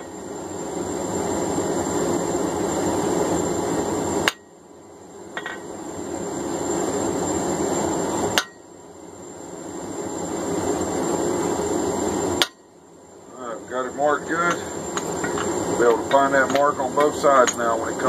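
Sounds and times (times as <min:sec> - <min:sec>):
forge running: 0:00.0 - 0:18.0.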